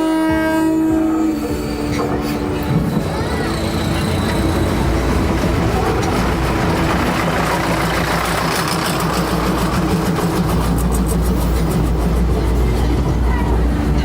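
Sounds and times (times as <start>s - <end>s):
heavy engine rumbling: 1.2s - 14.0s.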